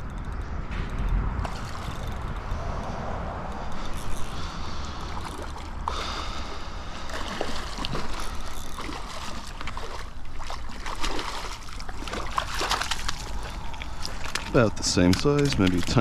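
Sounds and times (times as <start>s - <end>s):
steady low rumble: 0.0s - 16.0s
fish splashing at water surface: 1.4s - 16.0s.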